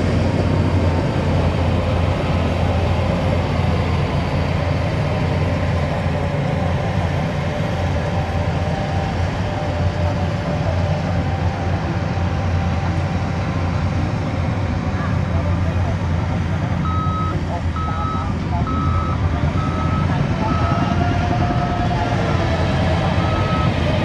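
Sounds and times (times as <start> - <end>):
heavy machinery diesel engine droning: 0.0 - 24.0.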